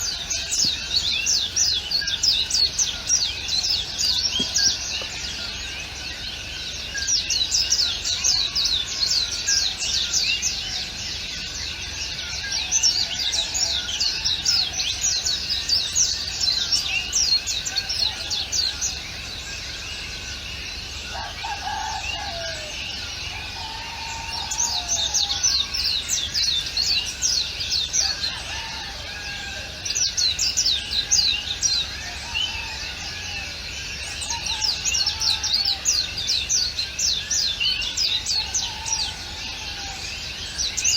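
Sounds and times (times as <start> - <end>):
lower bird calls: 0.0 - 40.9
small birds twittering: 0.0 - 40.9.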